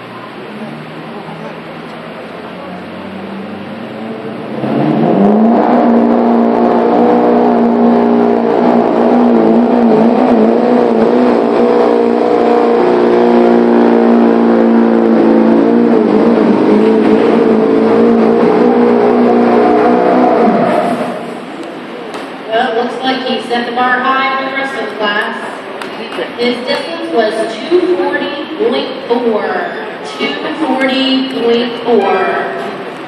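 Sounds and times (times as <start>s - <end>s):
diesel truck engine revving: 0.0s - 33.0s.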